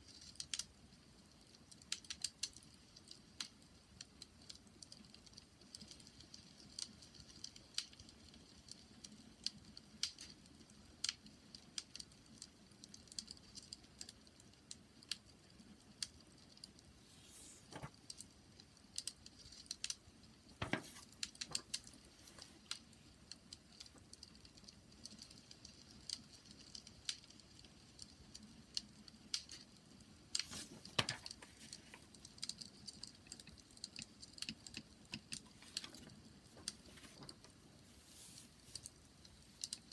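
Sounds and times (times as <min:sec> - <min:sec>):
faint low hiss: 0:00.0 - 0:39.9.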